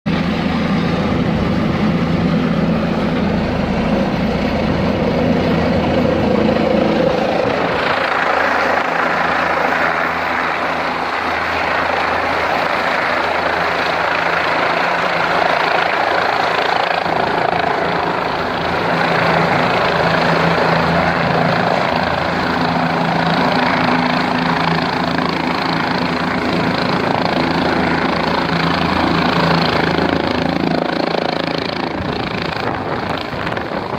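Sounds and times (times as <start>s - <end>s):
helicopter rotor and engine: 0.1s - 33.9s.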